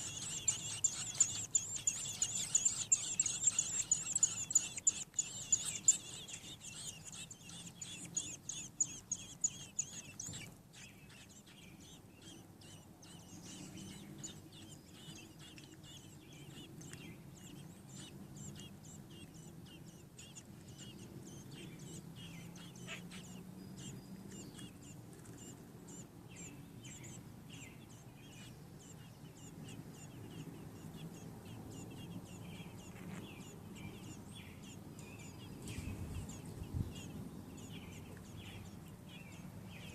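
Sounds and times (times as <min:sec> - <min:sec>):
nestlings peeping: 0:00.0 - 0:39.9.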